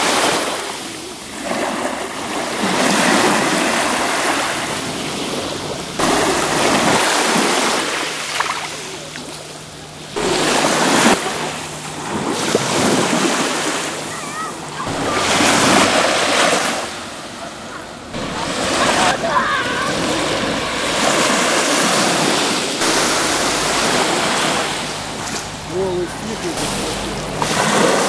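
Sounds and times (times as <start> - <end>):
small waves washing on sand: 0.0 - 28.0.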